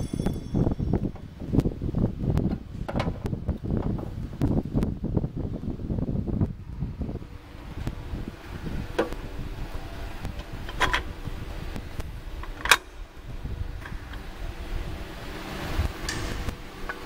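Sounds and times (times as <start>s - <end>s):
microphone handling rumble: 0.0s - 16.7s.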